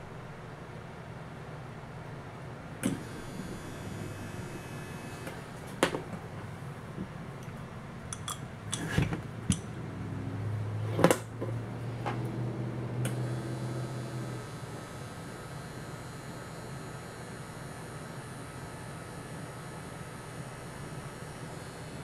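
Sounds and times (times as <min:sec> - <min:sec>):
low steady hum: 0:00.0 - 0:17.7.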